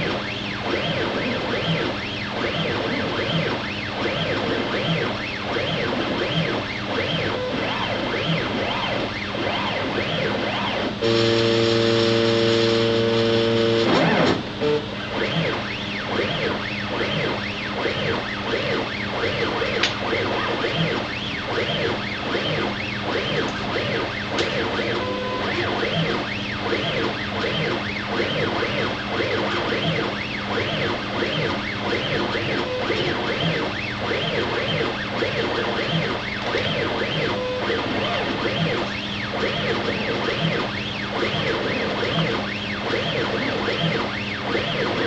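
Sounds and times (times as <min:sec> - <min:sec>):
stepper motors whining: 0:00.0 - 0:45.0.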